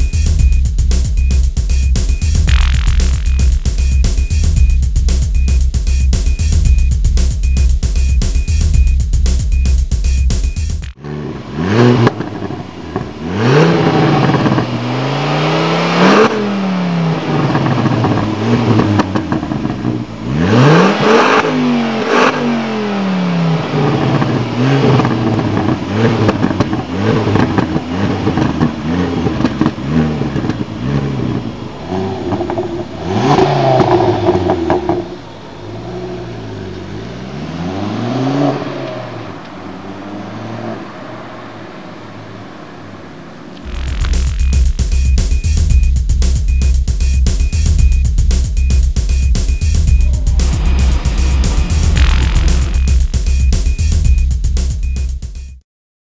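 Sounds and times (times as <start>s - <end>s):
car engine revving: 0.0s - 42.2s, 43.6s - 55.3s.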